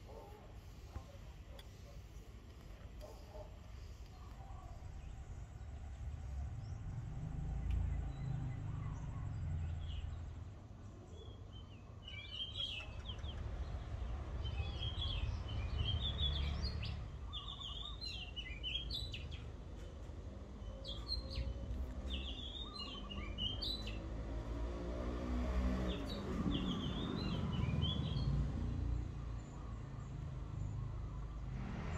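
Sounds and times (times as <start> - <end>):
small birds chirping: 0.0 - 24.7, 25.6 - 31.9.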